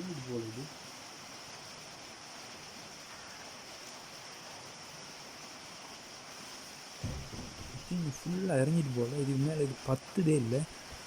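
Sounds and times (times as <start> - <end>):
faint high-pitched whine: 0.0 - 11.0
steady hiss: 0.0 - 11.0.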